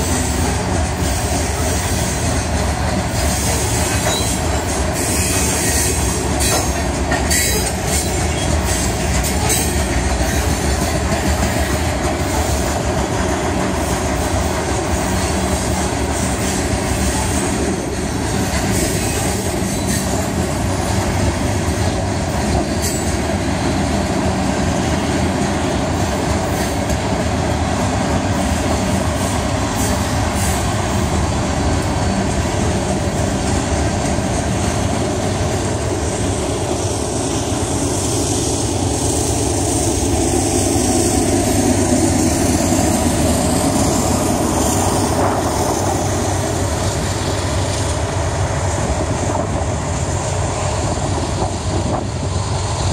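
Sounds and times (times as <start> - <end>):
clickety-clack over rail joints: 0.0 - 52.9
diesel locomotive passing: 0.0 - 52.9
steel wheels rumbling on rail: 0.0 - 52.9.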